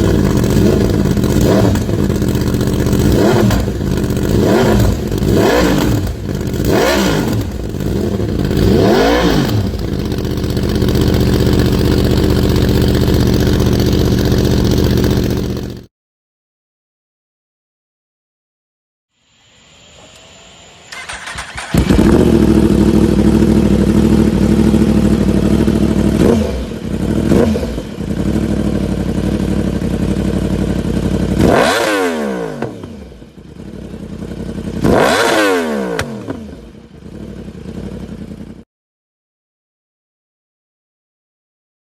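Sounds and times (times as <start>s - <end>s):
motorcycle engine idling and revving: 0.0s - 15.9s, 19.9s - 38.7s.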